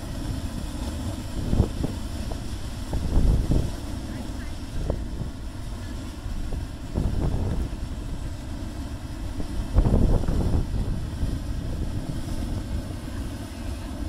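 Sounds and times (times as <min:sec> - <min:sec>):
geyser water and steam rushing: 0:00.0 - 0:14.0
wind buffeting microphone: 0:00.0 - 0:14.0.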